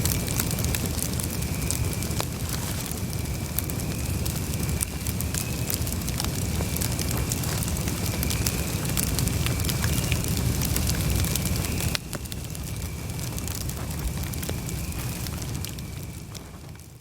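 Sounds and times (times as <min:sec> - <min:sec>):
low rumble of flames: 0:00.0 - 0:17.0
wood crackling and popping: 0:00.0 - 0:17.0.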